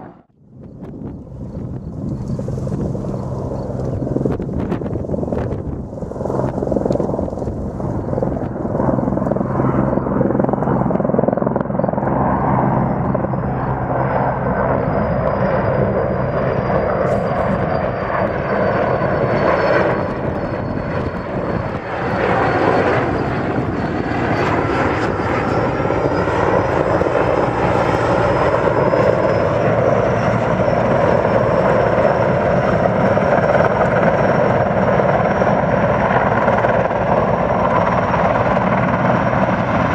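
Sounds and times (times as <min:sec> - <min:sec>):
helicopter rotor beating: 0:00.0 - 0:39.9
turbine engine whine: 0:00.0 - 0:39.9.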